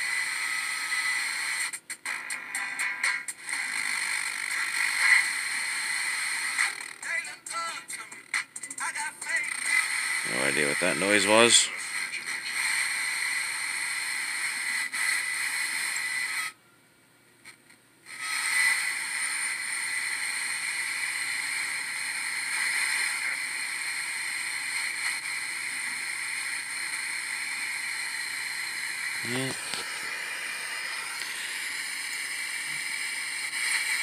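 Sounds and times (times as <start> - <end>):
radio static hiss: 0.0 - 16.6, 17.4 - 34.0.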